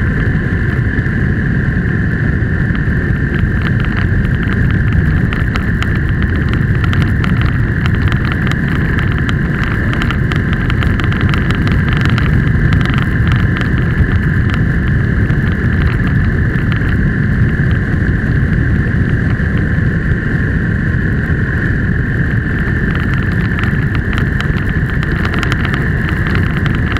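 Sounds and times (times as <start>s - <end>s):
constant high hum: 0.0s - 26.9s
wind and road noise rumble: 0.0s - 26.9s.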